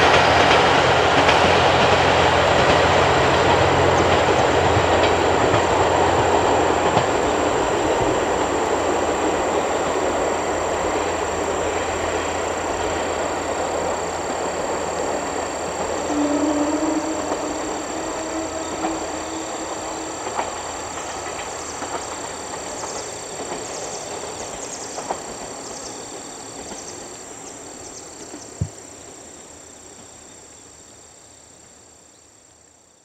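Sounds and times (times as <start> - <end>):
diesel train engine and wheels rumbling: 0.0 - 32.8.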